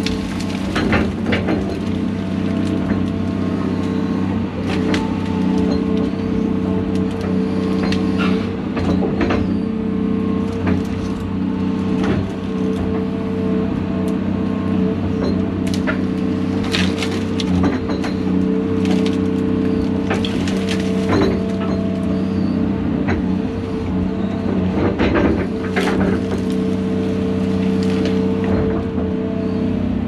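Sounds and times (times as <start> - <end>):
wood cracking and snapping: 0.0 - 14.2, 15.1 - 22.2, 23.1 - 29.2
excavator diesel engine running: 0.0 - 30.0.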